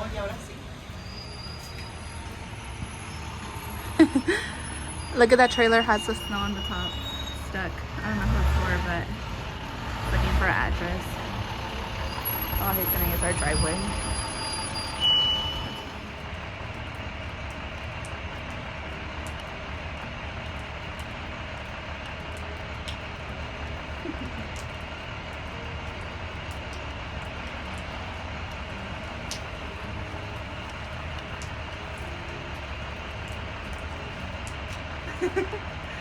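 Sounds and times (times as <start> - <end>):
truck engine rumbling: 0.0 - 36.0.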